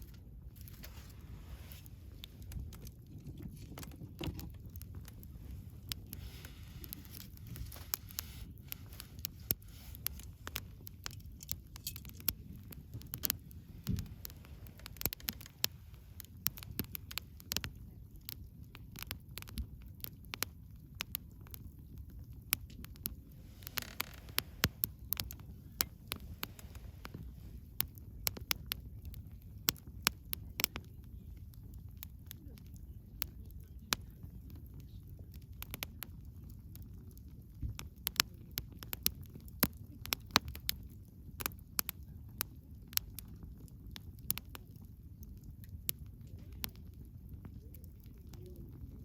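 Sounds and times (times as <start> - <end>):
low rumble of fire: 0.0 - 49.0
wood fire crackling and popping: 0.0 - 49.0.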